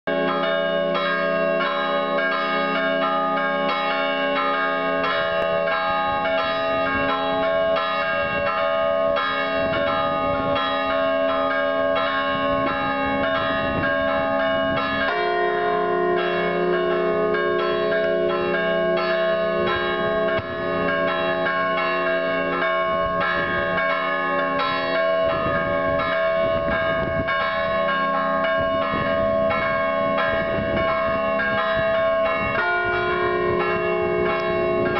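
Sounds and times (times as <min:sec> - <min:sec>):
church bells pealing: 0:00.1 - 0:34.9.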